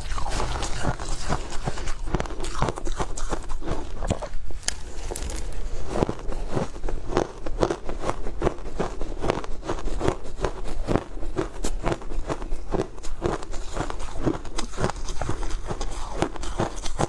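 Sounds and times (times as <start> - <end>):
chewing crunchy ice: 0.0 - 17.0.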